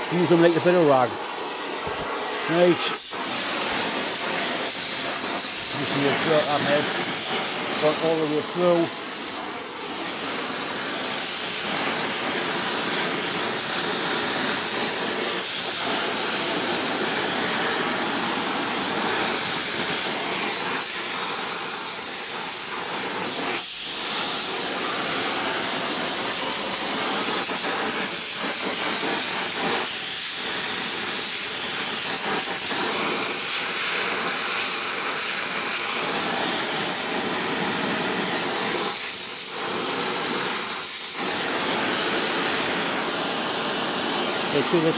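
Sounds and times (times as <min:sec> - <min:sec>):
gas burner hissing: 0:00.0 - 0:44.9.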